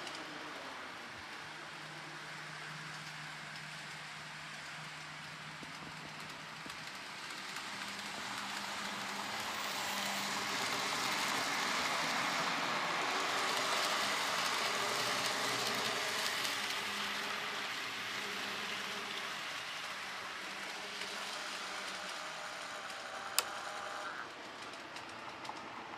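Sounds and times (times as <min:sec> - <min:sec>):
model train whirring on track: 0:00.0 - 0:25.9.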